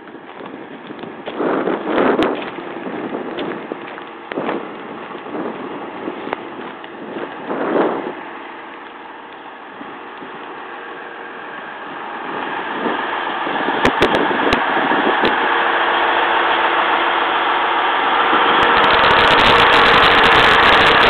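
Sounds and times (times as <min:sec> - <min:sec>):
diesel railcar engine running: 0:00.0 - 0:21.0.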